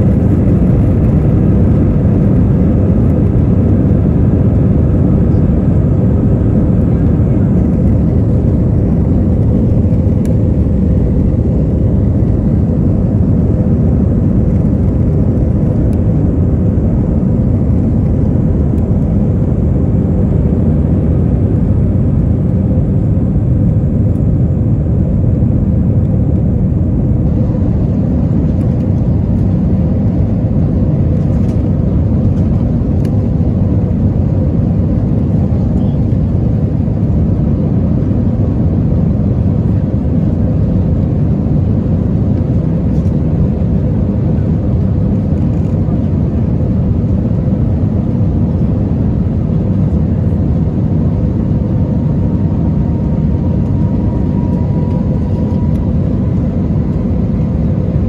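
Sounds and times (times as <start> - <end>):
steady cabin hum: 0.0 - 42.6, 43.3 - 58.0
jet engines roaring: 0.0 - 58.0.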